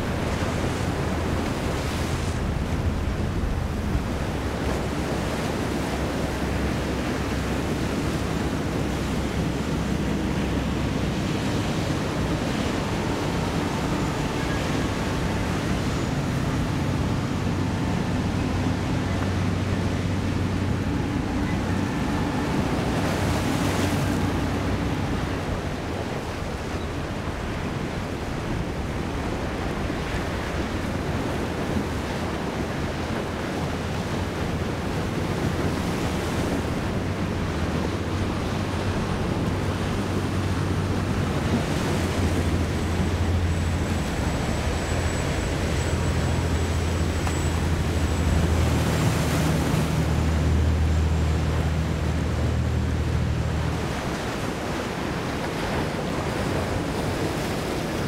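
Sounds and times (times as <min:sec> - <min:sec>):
boat engines droning: 0:00.0 - 0:58.0
waves and surf: 0:00.0 - 0:58.0.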